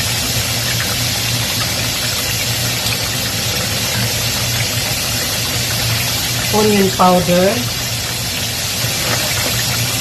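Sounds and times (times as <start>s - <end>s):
potatoes sizzling in hot oil: 0.0s - 10.0s.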